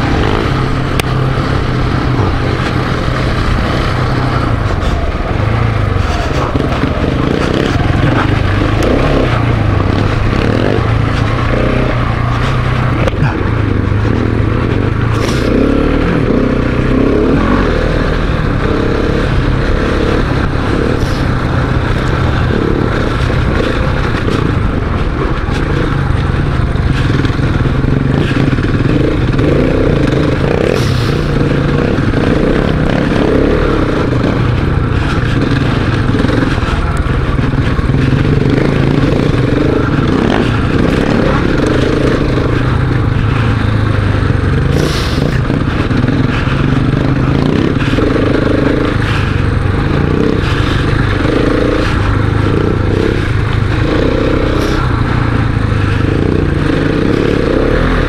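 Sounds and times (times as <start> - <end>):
motorcycle engine: 0.0 - 58.0
steady rush of noise: 0.0 - 58.0.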